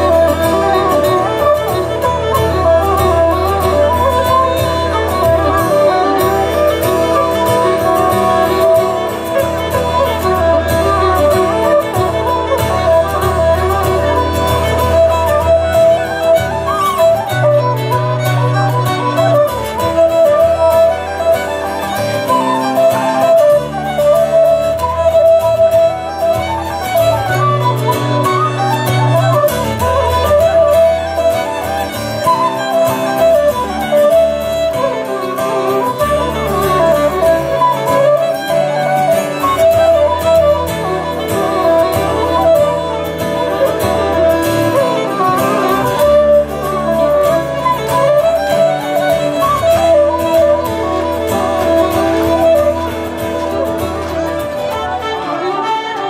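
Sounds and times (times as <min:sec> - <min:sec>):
acoustic guitar accompaniment: 0:00.0 - 0:56.0
fiddle: 0:00.0 - 0:56.0
flute melody: 0:00.0 - 0:56.0.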